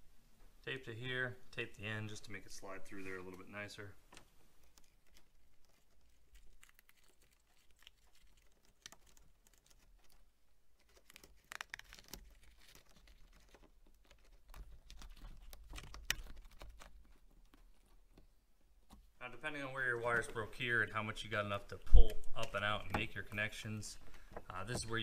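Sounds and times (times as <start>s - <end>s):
rustling and crinkling of wires: 1.9s - 25.0s.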